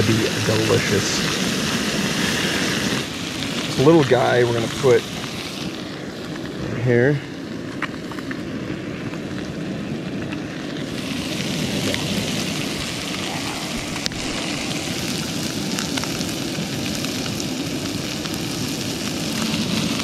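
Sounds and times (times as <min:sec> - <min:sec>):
camping stove hissing: 0:00.0 - 0:20.0
fish frying in pan: 0:00.0 - 0:20.0.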